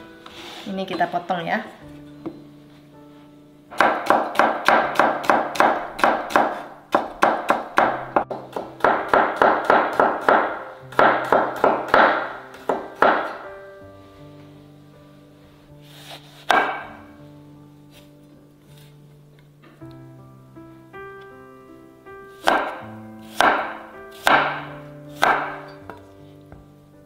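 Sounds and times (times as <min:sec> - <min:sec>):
background music sustained tones: 0:00.0 - 0:27.0.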